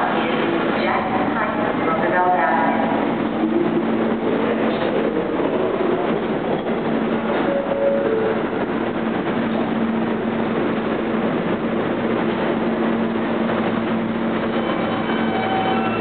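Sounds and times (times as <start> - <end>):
subway train equipment humming: 0.0 - 16.0.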